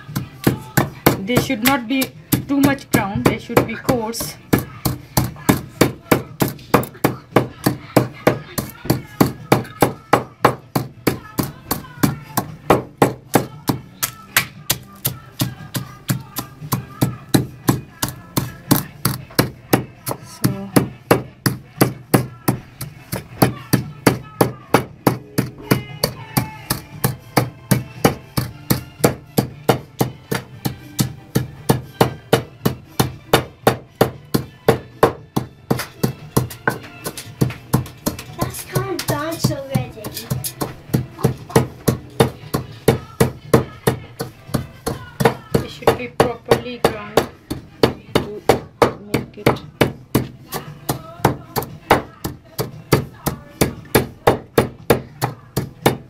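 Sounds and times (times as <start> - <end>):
pestle pounding spices in mortar: 0.0 - 56.0.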